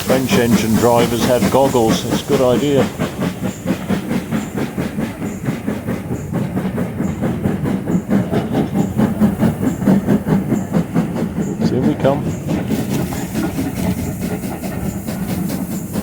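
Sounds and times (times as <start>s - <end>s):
carriage wheels clattering on rails: 0.0s - 16.0s
steam locomotive exhaust beating: 0.0s - 16.0s.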